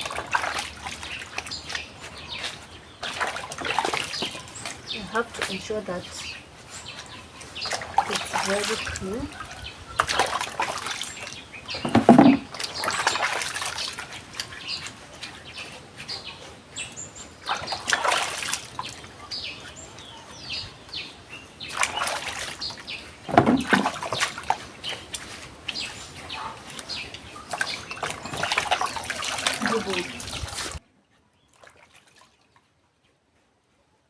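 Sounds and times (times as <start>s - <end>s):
scrubbing vegetables in water: 0.0s - 30.8s
water splashing and sloshing: 0.0s - 33.5s.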